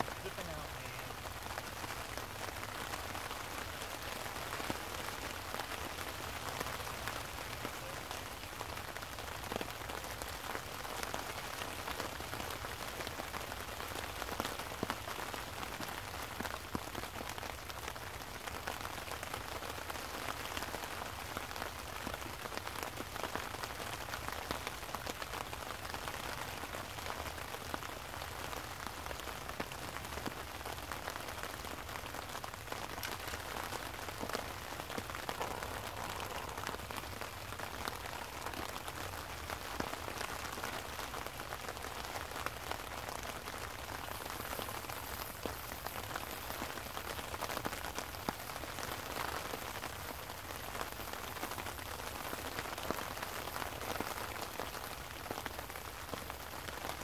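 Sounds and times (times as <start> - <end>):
raindrops ticking: 0.0 - 57.0
steady rain: 0.0 - 57.0.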